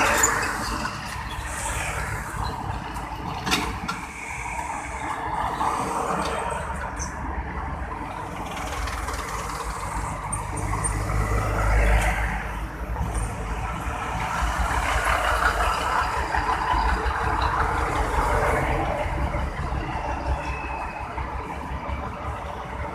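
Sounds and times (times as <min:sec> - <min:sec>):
heavy trucks passing: 0:00.0 - 0:22.9.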